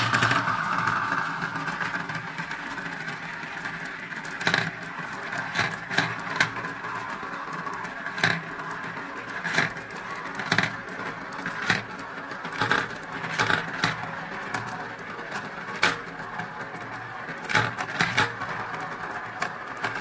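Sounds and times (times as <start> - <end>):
marbles rolling in plastic funnels: 0.0 - 20.0.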